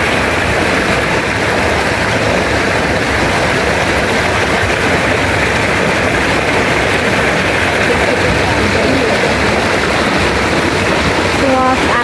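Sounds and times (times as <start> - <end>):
water rushing over boulders: 0.0 - 12.0.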